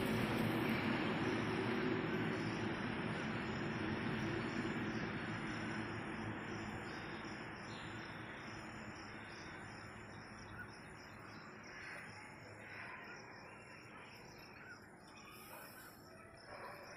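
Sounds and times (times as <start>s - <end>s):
insects trilling: 0.0s - 16.9s.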